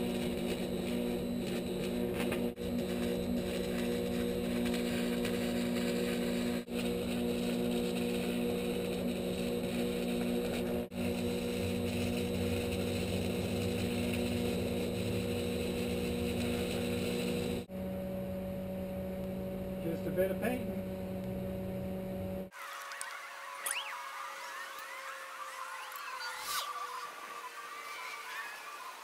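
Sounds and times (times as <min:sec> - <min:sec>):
welding arc crackling: 0:00.0 - 0:17.7, 0:22.5 - 0:29.0
welding machine electrical hum: 0:00.0 - 0:29.0.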